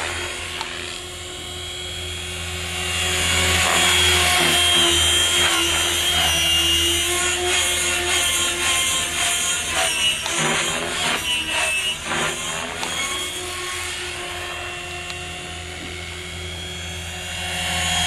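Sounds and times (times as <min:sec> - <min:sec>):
helicopter rotor noise: 0:00.0 - 0:18.0
rc helicopter motor whine: 0:00.0 - 0:18.0.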